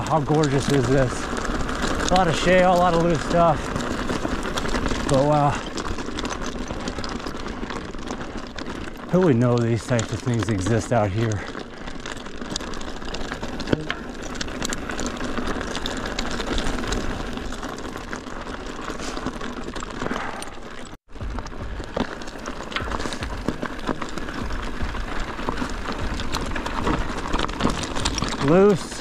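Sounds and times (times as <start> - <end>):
bike tyres crunching on gravel: 0.0 - 29.0.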